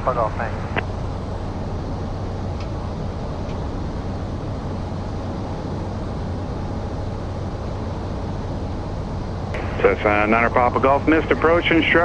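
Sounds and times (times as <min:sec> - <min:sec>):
airflow noise: 0:00.0 - 0:12.0
turboprop engine hum: 0:00.0 - 0:12.0.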